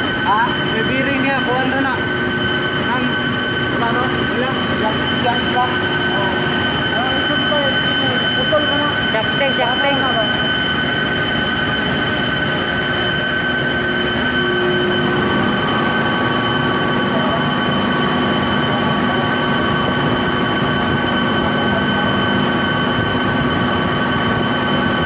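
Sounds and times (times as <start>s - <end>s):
machinery drone with high whine: 0.0s - 25.0s.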